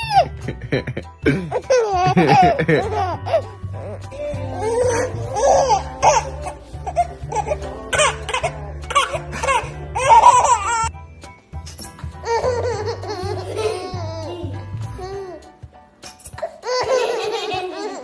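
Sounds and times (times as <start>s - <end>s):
baby laughing: 0.0s - 10.9s, 12.2s - 18.0s
background music with bass line: 0.0s - 18.0s.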